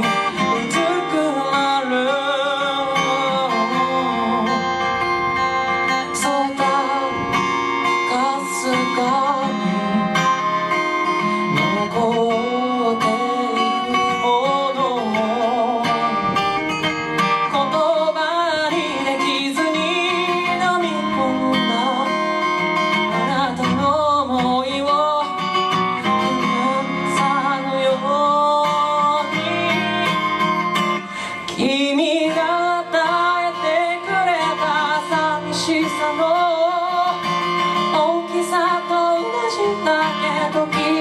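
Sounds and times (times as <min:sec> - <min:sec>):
acoustic guitar: 0:00.0 - 0:41.0.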